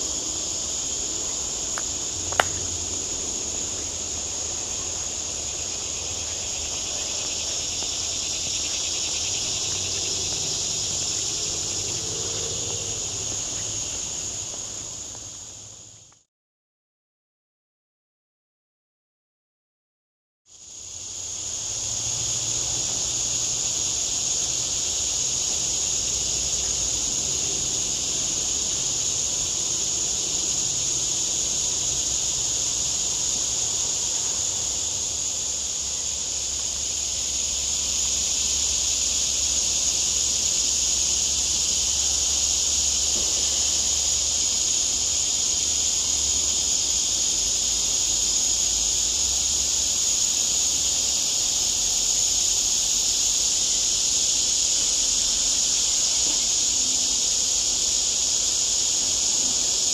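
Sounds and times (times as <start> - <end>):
insects droning: 0.0 - 16.3, 20.5 - 59.9.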